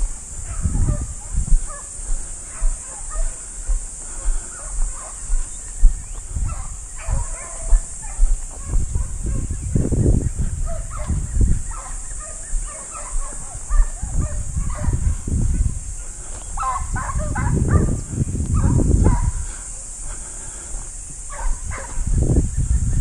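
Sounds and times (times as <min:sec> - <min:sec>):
dogs barking and yelping: 0:00.0 - 0:22.2
high-pitched hiss: 0:00.0 - 0:23.0.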